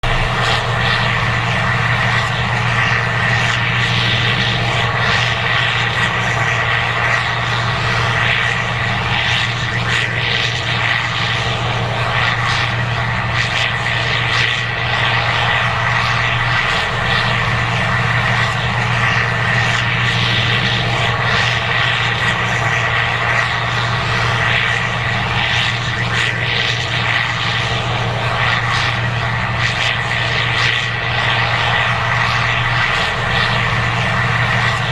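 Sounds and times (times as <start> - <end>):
combine engine drone: 0.0 - 34.9
high whine: 0.0 - 34.9.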